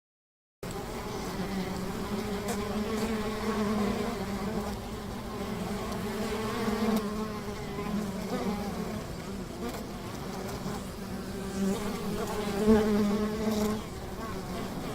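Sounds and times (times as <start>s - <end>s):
bees buzzing: 0.6s - 14.9s.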